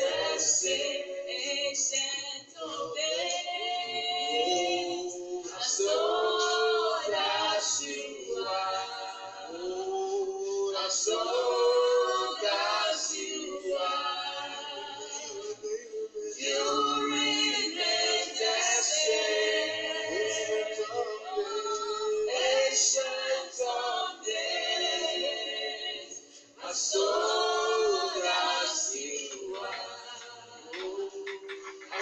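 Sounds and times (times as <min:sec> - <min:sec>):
voices singing together: 0:00.0 - 0:32.0.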